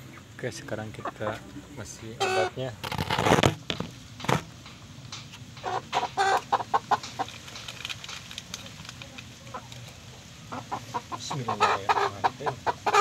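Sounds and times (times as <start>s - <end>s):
chicken clucking: 0.0s - 3.2s, 5.3s - 13.0s.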